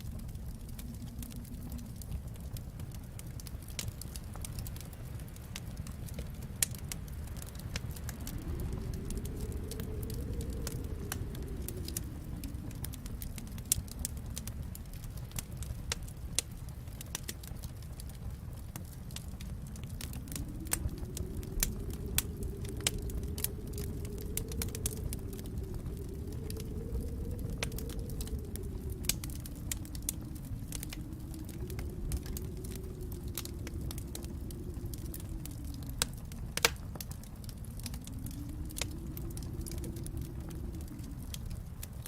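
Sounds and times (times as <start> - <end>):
howling storm wind: 0.0 - 42.0
low steady rumble: 0.0 - 42.0
wood fire crackling: 0.0 - 42.0.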